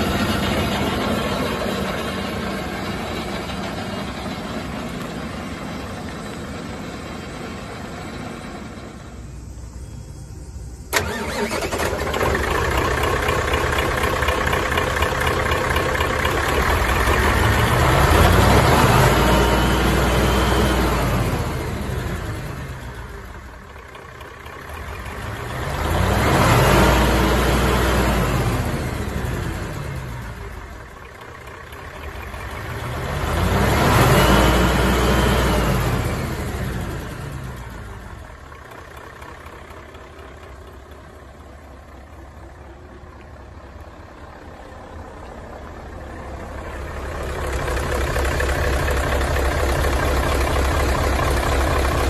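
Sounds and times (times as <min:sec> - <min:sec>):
diesel truck engine revving: 0:00.0 - 0:42.8.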